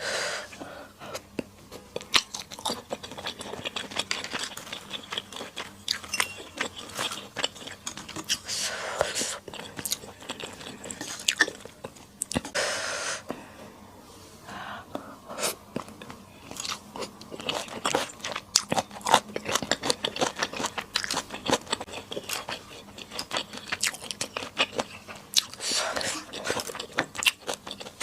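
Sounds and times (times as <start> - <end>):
biting and chewing: 1.2 - 8.5, 9.4 - 12.6, 15.7 - 28.0.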